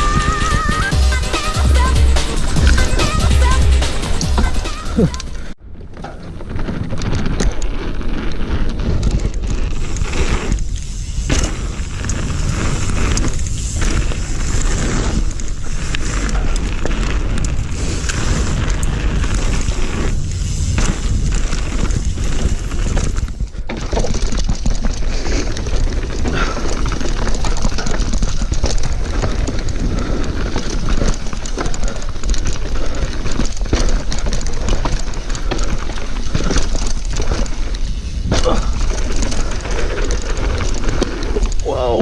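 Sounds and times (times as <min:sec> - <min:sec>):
bike rattling over rocks: 0:00.0 - 0:42.0.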